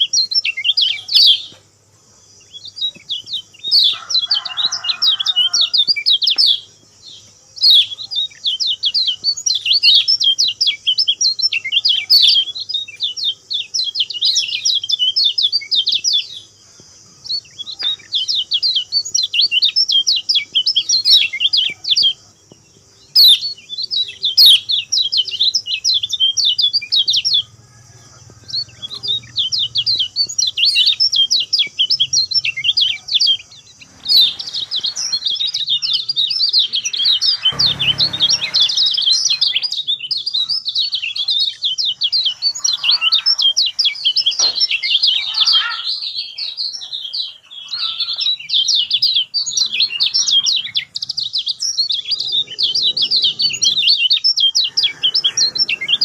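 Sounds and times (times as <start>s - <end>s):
bird twittering song: 0.0s - 56.0s.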